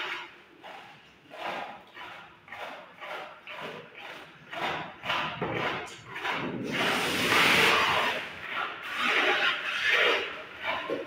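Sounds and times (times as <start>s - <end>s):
trowel scraping plaster on wall: 0.0s - 11.0s.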